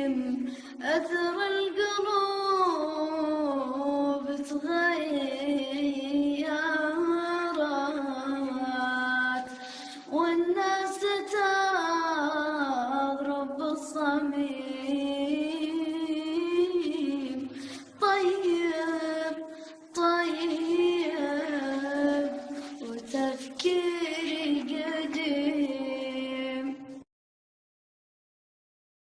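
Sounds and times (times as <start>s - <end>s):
person singing with vibrato: 0.0s - 27.0s.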